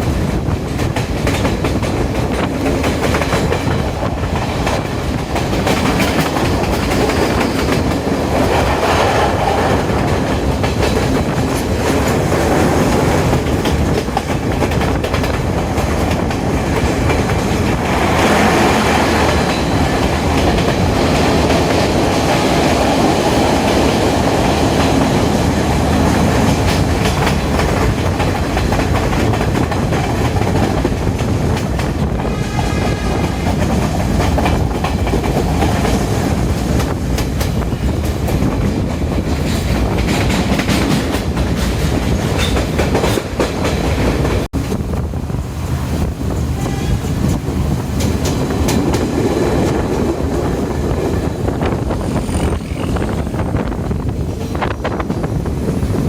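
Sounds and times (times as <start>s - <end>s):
train wheels clickety-clack: 0.0s - 56.0s.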